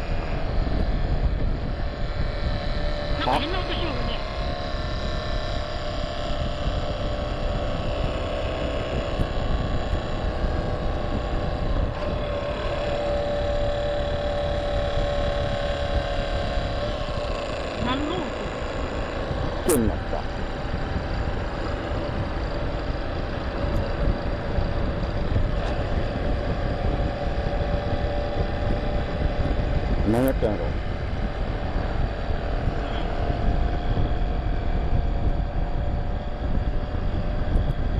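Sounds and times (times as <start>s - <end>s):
motorcycle engine running: 0.0s - 37.9s
wind rumbling on microphone: 0.0s - 37.9s.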